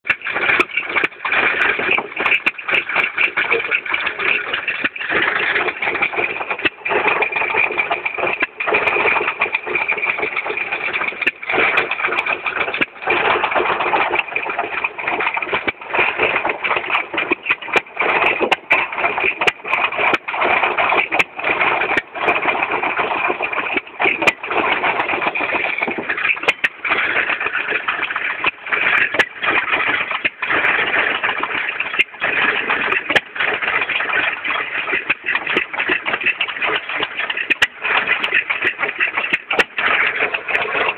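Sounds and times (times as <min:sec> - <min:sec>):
gas engine clatter: 0:00.0 - 0:40.9
sharp engine clicks: 0:00.0 - 0:40.9.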